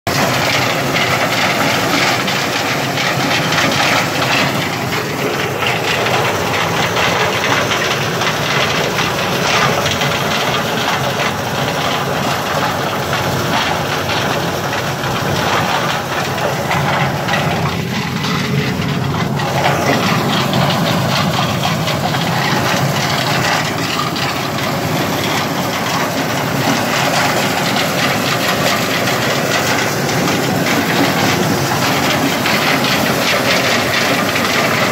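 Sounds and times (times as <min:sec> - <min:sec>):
maize sheller running: 0:00.1 - 0:34.9.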